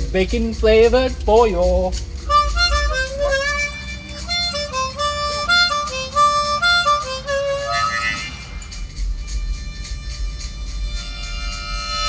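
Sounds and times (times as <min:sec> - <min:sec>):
blues harmonica riff: 0:02.2 - 0:12.0.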